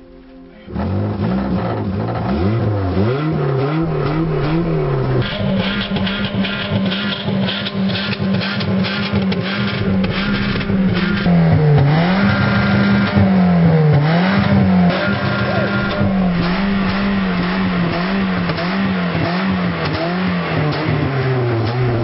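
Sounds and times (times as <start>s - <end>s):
car engine revving: 0.5s - 22.0s.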